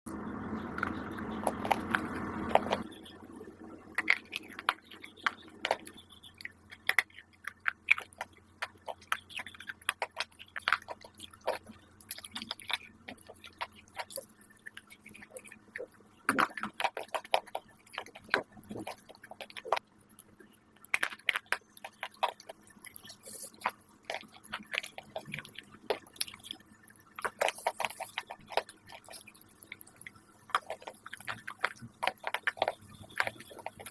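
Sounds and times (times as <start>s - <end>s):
chewing crisp food: 0.1s - 33.9s.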